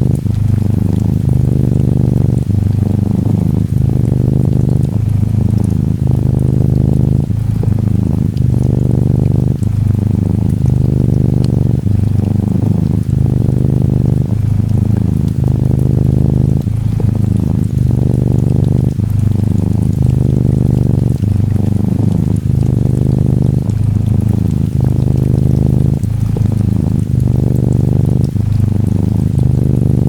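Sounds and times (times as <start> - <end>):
kitten purring: 0.0 - 30.0
soft rain patter: 0.0 - 30.0.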